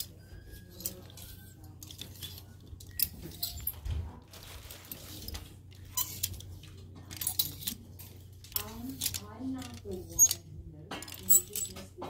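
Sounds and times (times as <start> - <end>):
hangers clacking: 0.0 - 3.8, 4.4 - 12.0
plastic hangers clicking and scraping: 0.0 - 12.0
store background hum: 0.0 - 12.0.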